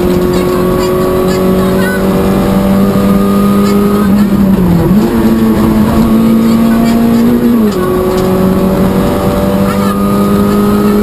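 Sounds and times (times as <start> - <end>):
car engine revving high: 0.0 - 11.0.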